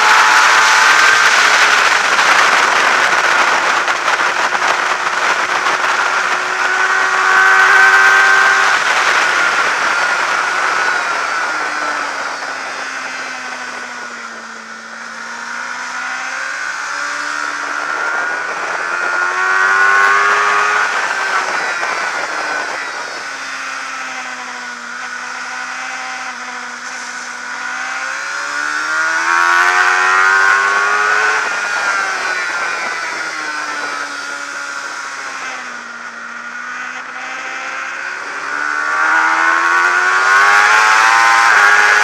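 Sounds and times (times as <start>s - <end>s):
wind rush: 0.0s - 25.6s, 26.2s - 36.9s
motorcycle engine revving: 0.0s - 42.0s.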